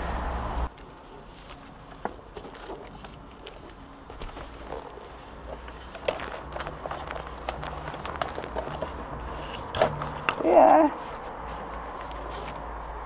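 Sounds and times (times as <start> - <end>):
paper rustling and crackling: 0.6 - 13.0.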